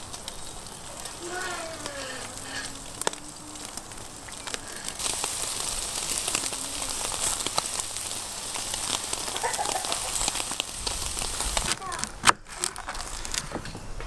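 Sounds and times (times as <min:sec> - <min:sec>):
fat crackling and popping on coals: 0:00.0 - 0:14.0
meat sizzling over charcoal: 0:00.0 - 0:14.0.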